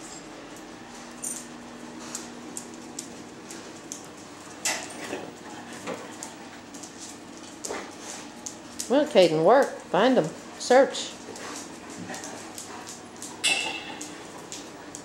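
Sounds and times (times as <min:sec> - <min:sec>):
steady low hum: 0:00.0 - 0:15.0
dog nails clicking on concrete: 0:00.1 - 0:10.4, 0:11.0 - 0:15.0.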